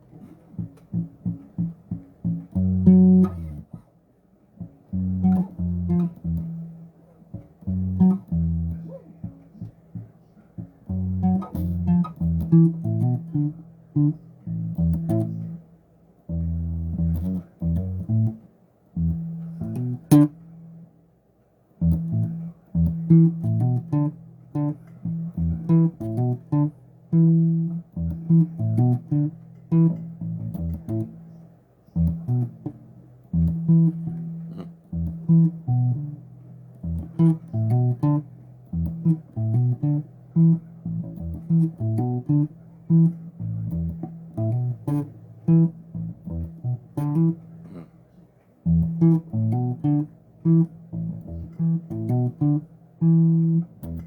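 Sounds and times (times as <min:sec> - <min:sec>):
electric bass guitar plucked notes: 0:00.6 - 0:03.8, 0:04.6 - 0:15.6, 0:16.3 - 0:18.4, 0:19.0 - 0:20.8, 0:21.8 - 0:31.3, 0:32.0 - 0:47.8, 0:48.6 - 0:54.0.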